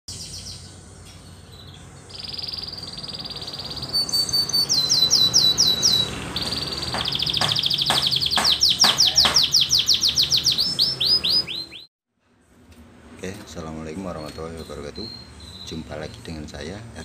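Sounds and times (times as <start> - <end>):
canary singing trills: 0.1 - 11.9, 14.1 - 17.0.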